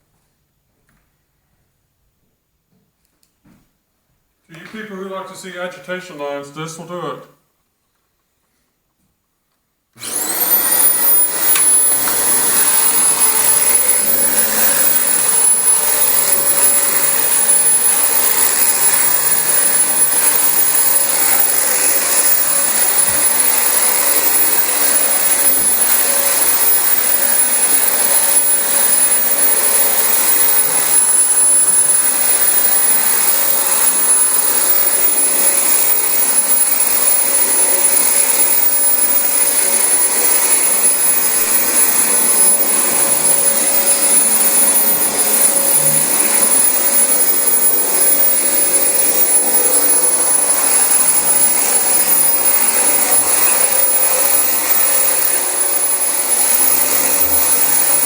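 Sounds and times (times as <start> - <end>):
vacuum cleaner running on carpet: 10.0 - 58.0.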